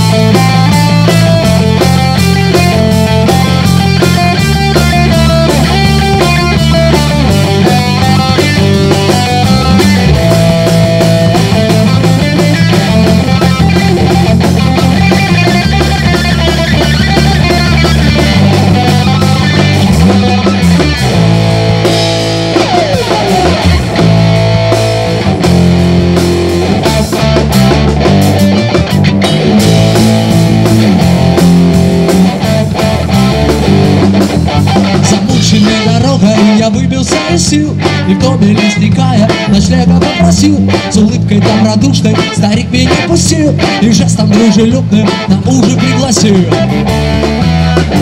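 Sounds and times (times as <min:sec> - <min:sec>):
bass guitar: 0:00.0 - 0:48.0
drum kit: 0:00.0 - 0:48.0
electric guitar: 0:00.0 - 0:48.0.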